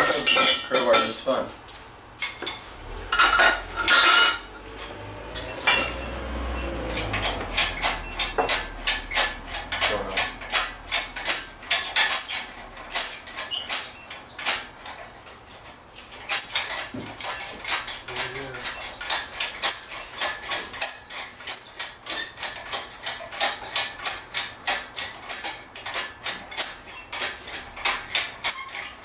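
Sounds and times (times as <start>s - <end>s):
metal tools clinking and clanking: 0.0s - 1.5s, 2.2s - 29.0s.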